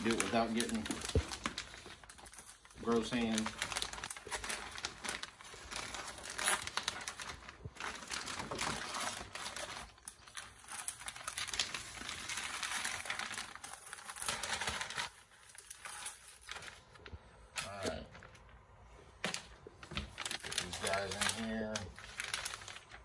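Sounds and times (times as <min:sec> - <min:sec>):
plastic bag crinkling and rustling: 0:00.0 - 0:23.0.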